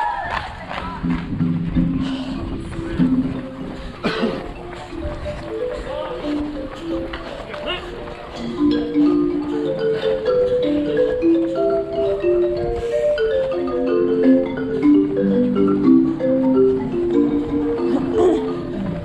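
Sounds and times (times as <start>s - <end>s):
marimba-like melody: 1.0s - 19.0s.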